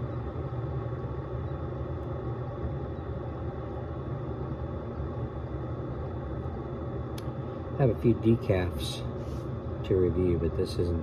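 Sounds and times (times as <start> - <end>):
coffee maker humming: 0.0 - 11.0.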